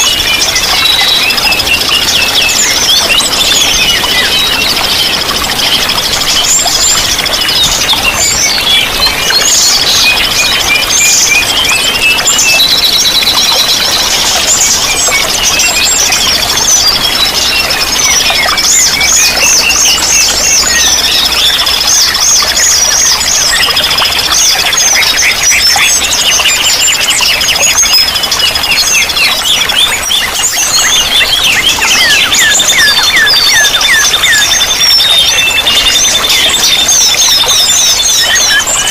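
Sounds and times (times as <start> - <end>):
songbirds trilling and chirping: 0.0 - 38.9.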